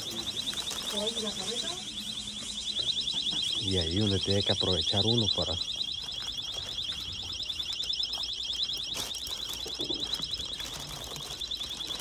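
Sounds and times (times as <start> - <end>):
pulsing electronic alarm tone: 0.0 - 12.0.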